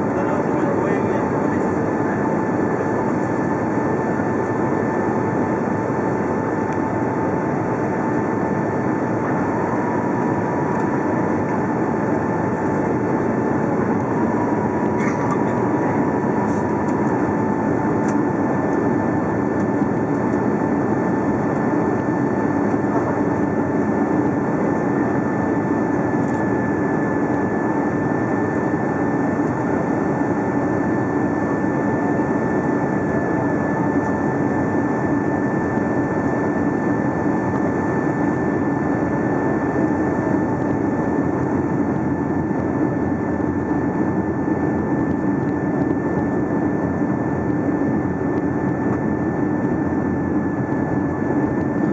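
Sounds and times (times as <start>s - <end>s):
jet engine and airflow in cabin: 0.0s - 51.9s.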